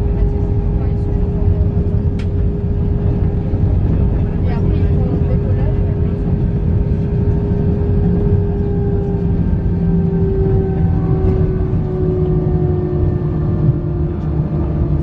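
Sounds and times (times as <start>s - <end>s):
airplane cabin rumble: 0.0s - 15.0s
jet engines whining down: 0.0s - 15.0s.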